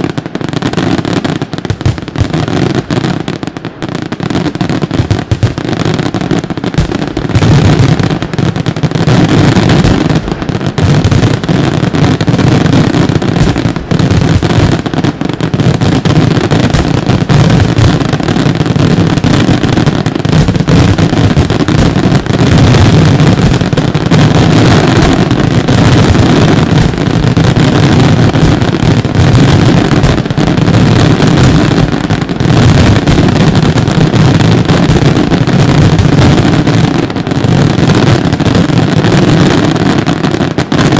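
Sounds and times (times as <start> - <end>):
fireworks barrage rumbling: 0.0 - 40.9.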